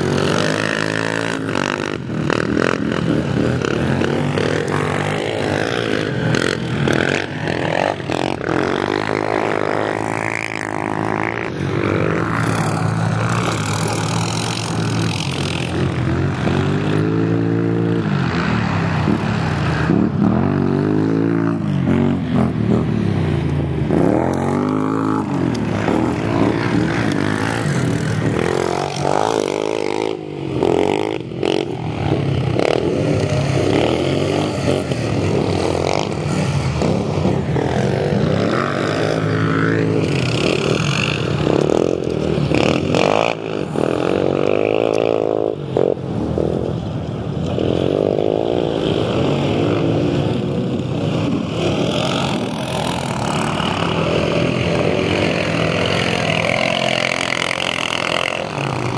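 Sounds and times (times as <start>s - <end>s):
quad bike engines revving: 0.0s - 58.9s.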